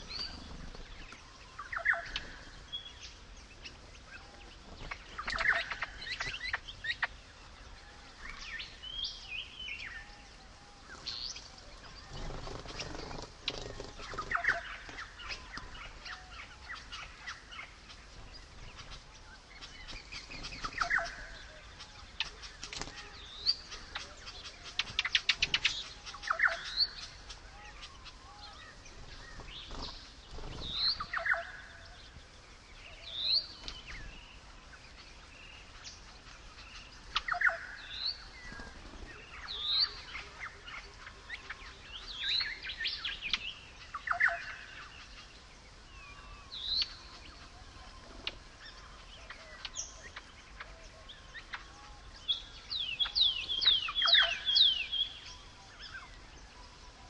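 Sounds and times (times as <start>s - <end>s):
wild birds calling: 0.0s - 57.0s.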